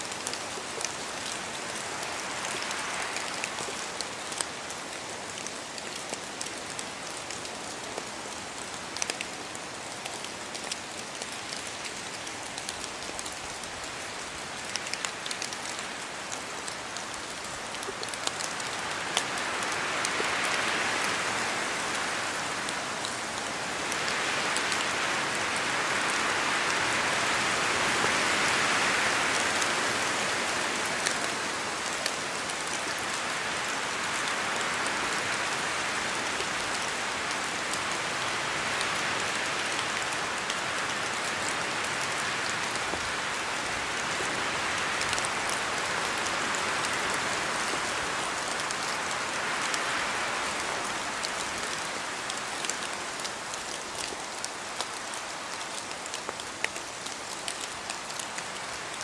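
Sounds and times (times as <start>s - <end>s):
rain falling through trees: 0.0s - 59.0s
wind gusting through trees: 0.0s - 59.0s.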